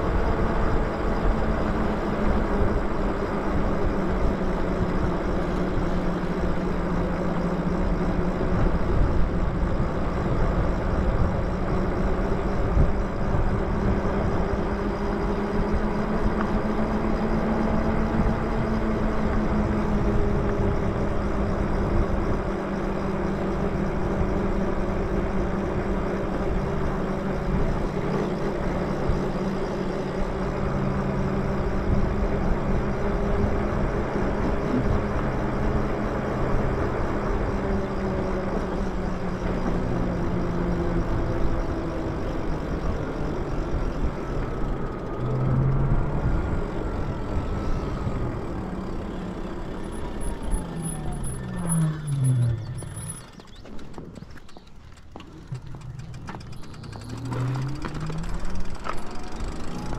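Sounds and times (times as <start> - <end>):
electric motor hum: 0.1 - 59.9
tyres rolling on pavement: 0.9 - 59.9.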